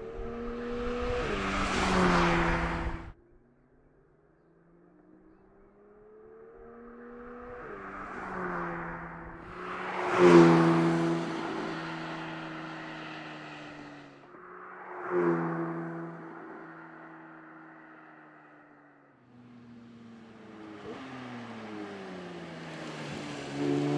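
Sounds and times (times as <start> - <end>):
car engine accelerating: 0.0 - 3.2, 4.9 - 23.9.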